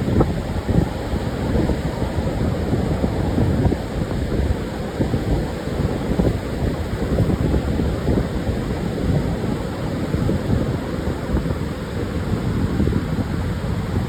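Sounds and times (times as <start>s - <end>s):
surf on sandy beach: 0.0s - 14.0s
wind buffeting microphone: 0.0s - 14.0s.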